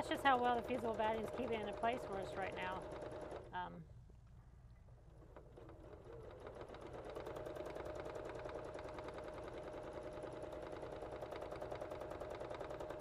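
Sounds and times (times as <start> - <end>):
sewing machine stitching: 0.0 - 3.6, 5.2 - 13.0.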